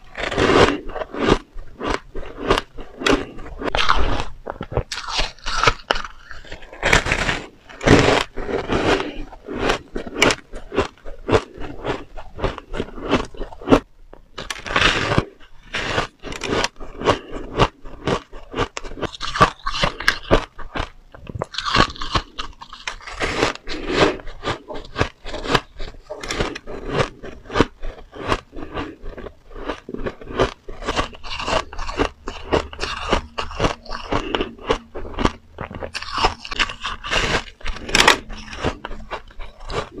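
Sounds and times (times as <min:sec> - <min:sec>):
crunching shaved ice: 0:00.0 - 0:13.8, 0:14.4 - 0:40.0.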